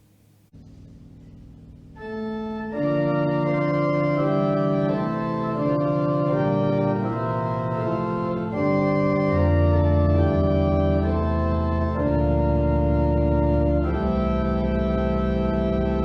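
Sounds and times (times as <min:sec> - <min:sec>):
organ playing slow chords: 0:01.9 - 0:16.0.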